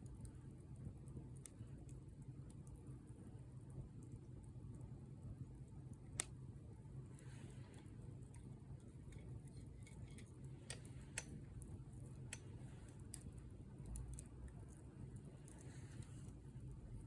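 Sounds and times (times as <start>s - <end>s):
low steady rumble: 0.0s - 17.0s
wood fire crackling and popping: 0.0s - 17.0s.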